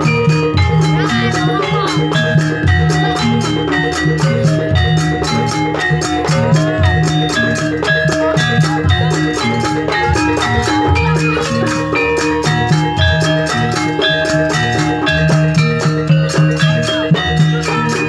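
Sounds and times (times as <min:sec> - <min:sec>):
steady drumming: 0:00.0 - 0:18.0
struck metallophones melody: 0:00.0 - 0:18.0.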